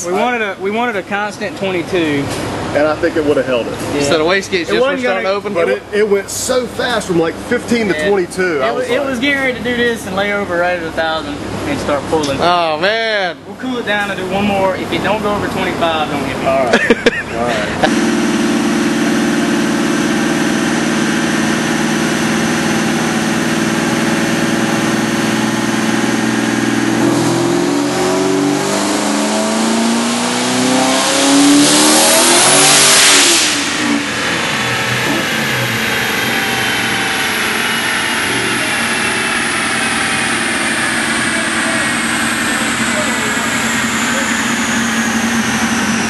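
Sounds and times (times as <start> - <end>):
car engine revving on dyno: 0.0 - 12.6, 13.3 - 46.0.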